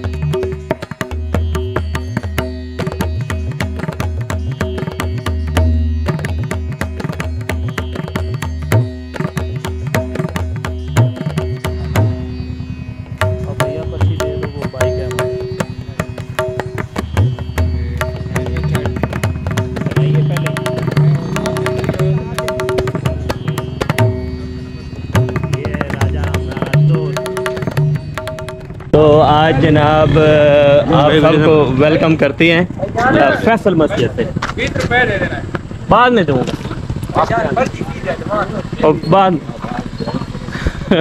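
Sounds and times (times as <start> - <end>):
steady held drone: 0.0 - 41.0
tabla drumming fast rhythm: 0.0 - 41.0.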